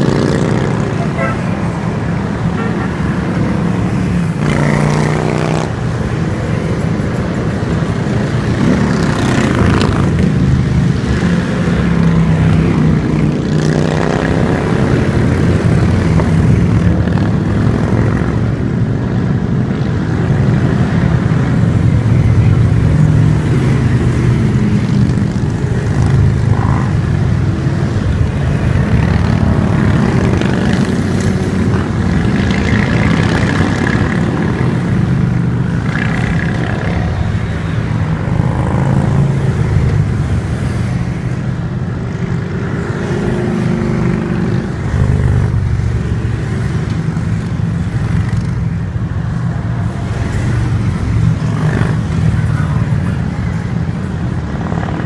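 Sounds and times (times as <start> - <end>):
motorcycles passing by: 0.0 - 55.0.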